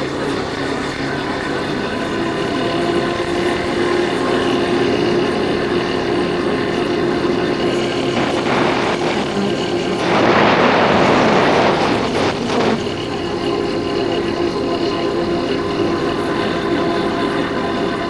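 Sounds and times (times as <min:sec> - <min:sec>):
motorcycle engine running: 0:00.0 - 0:18.0
rushing noise: 0:01.9 - 0:18.0.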